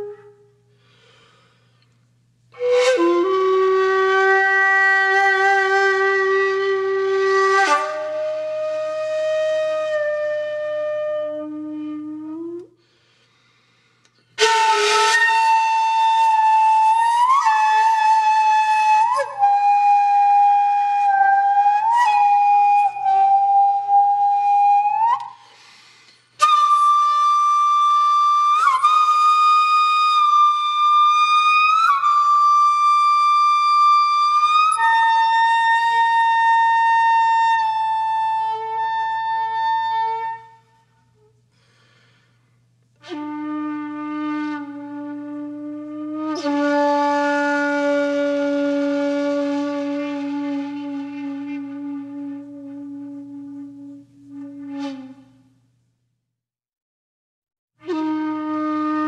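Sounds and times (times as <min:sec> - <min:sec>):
slow flute-like melody: 0:00.0 - 0:13.2, 0:14.0 - 0:56.1, 0:57.8 - 0:59.0.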